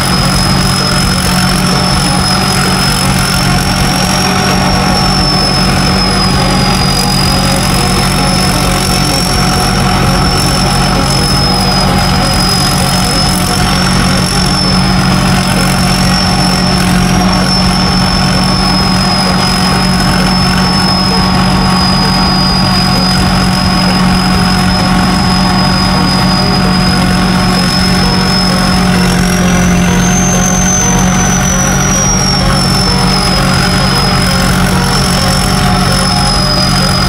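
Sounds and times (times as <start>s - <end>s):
large engine running steadily: 0.0s - 37.0s
thin high whine: 0.0s - 37.0s.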